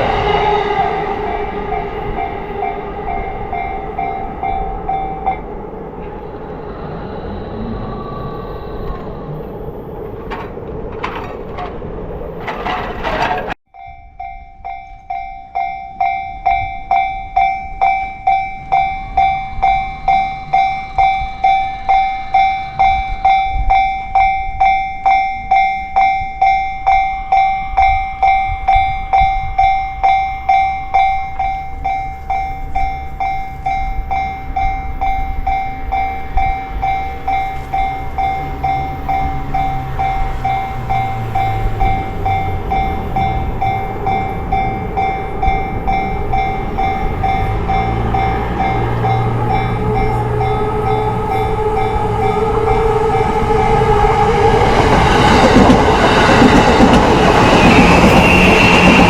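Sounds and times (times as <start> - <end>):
level crossing warning bell: 0.0 - 6.2, 12.4 - 57.5
train rumble: 0.0 - 59.0.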